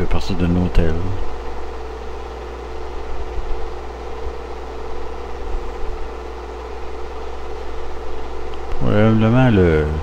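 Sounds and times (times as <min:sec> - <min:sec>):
constant hiss: 0:00.0 - 0:10.0
projector motor and fan hum: 0:00.0 - 0:10.0.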